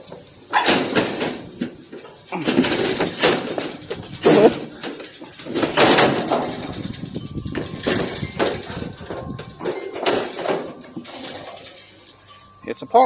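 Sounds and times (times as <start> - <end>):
metal parts scraping and clattering: 0.5 - 12.6.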